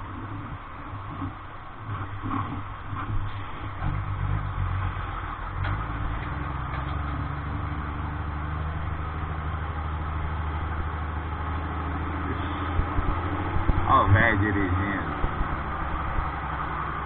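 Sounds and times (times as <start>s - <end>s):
road noise: 0.0s - 17.0s
vehicle engine droning: 0.0s - 17.0s.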